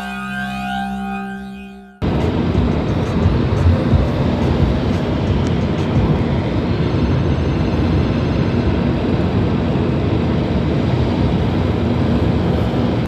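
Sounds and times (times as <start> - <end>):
car road and wind noise: 2.0 - 13.0.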